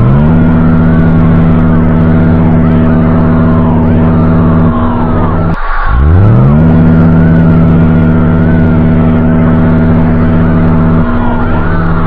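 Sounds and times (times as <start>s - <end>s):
harsh emergency alert alarm: 0.0s - 12.0s.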